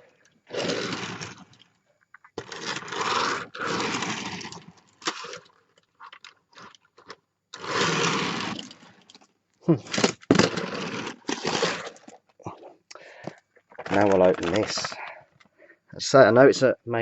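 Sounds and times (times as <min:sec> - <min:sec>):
toy bus wheels rolling: 0:00.0 - 0:12.3, 0:13.3 - 0:15.5.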